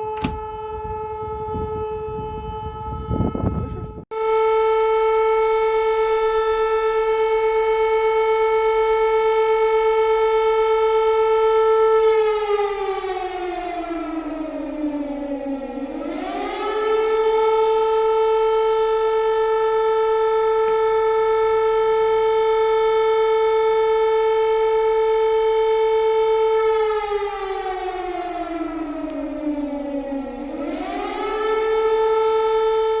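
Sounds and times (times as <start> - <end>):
alarm siren wailing: 0.0 - 33.0.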